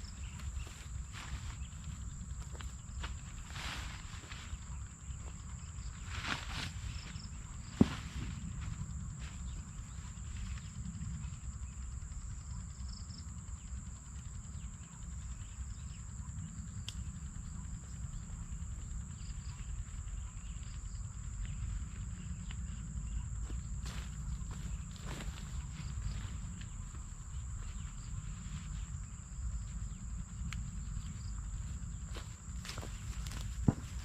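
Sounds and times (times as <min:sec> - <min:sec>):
constant low rumble: 0:00.0 - 0:34.0
insects chirring: 0:00.0 - 0:34.0.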